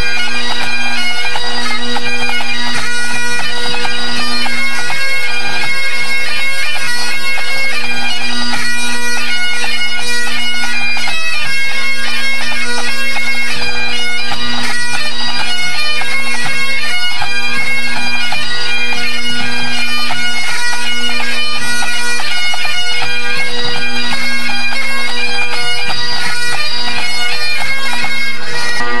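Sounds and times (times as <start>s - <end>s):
bagpipes playing: 0.0s - 29.0s.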